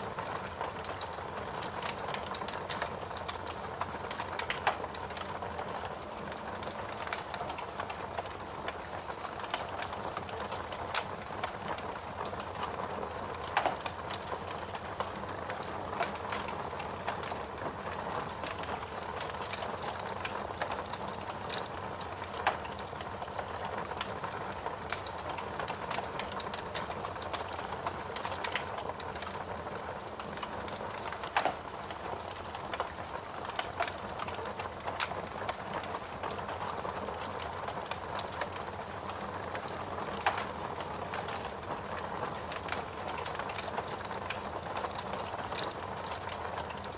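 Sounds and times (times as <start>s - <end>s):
log fire crackling and popping: 0.0s - 46.9s.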